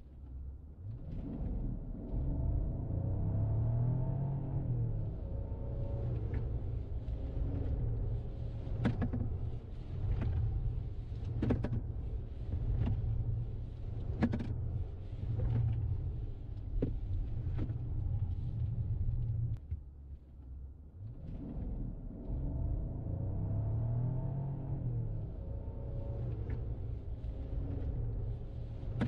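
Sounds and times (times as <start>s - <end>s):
car interior rumble: 5.0s - 29.0s.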